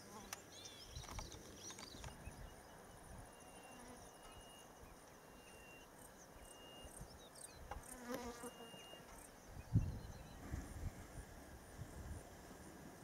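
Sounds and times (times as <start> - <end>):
insects buzzing and trilling: 0.0 - 10.5.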